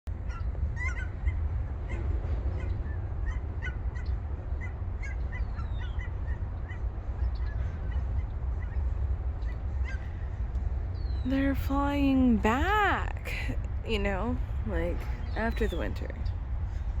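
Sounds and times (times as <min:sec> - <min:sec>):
steady low rumble: 0:00.1 - 0:17.0.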